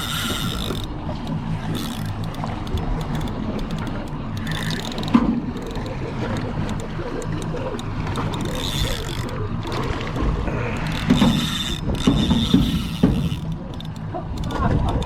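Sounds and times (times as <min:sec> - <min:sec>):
sharp clicks: 0:00.0 - 0:09.9, 0:10.8 - 0:15.0
boat engine idling: 0:00.0 - 0:15.0.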